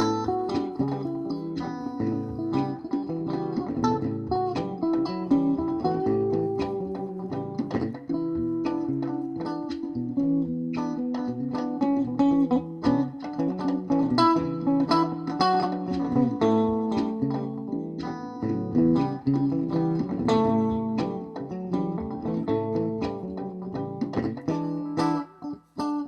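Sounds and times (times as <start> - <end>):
bass guitar: 0.0 - 26.0
guitar picking notes: 0.0 - 26.0.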